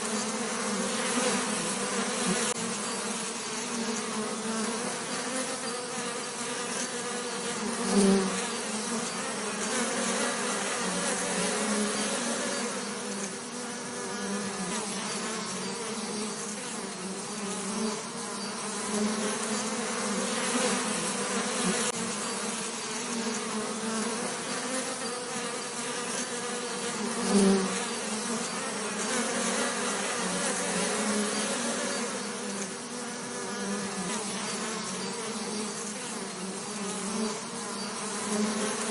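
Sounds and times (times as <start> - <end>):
bees buzzing: 0.0 - 38.9.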